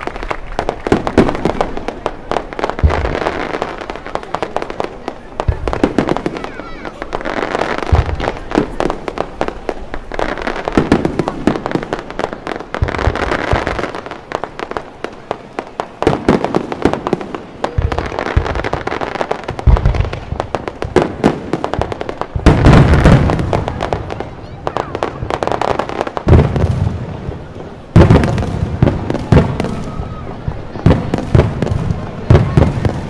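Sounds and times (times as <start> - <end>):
fireworks booms: 0.0 - 33.0
fireworks crackling and popping: 0.0 - 33.0.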